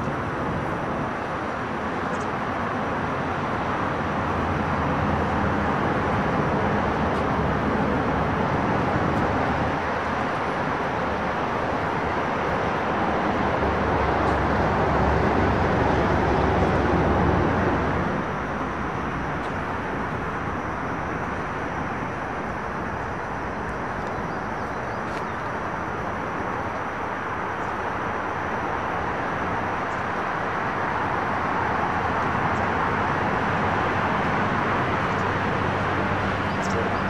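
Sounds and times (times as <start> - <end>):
passing vehicle engine rumble: 0.0 - 37.0
road traffic noise: 0.0 - 37.0.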